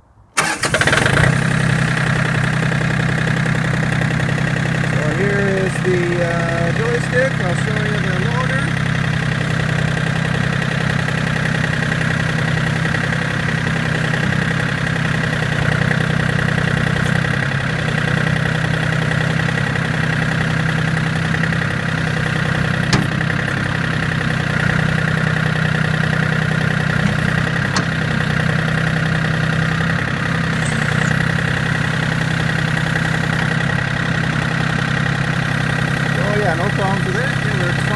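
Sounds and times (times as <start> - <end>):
tractor diesel engine running: 0.4 - 37.9.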